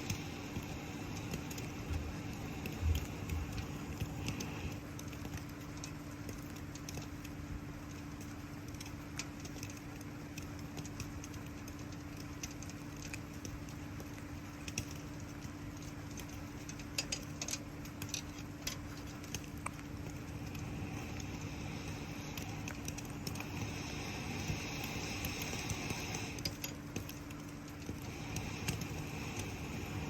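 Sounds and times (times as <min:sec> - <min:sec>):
campfire crackling: 0:00.0 - 0:30.0
fire popping: 0:00.0 - 0:30.0
low steady hum: 0:00.0 - 0:30.0.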